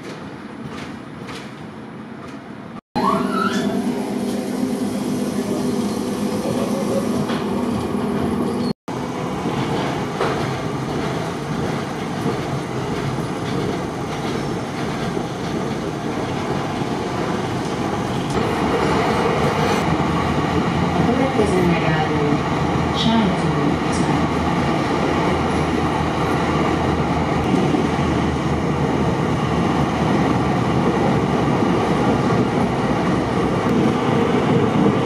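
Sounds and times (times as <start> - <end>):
tram wheels rumbling on rails: 0.0 - 35.0.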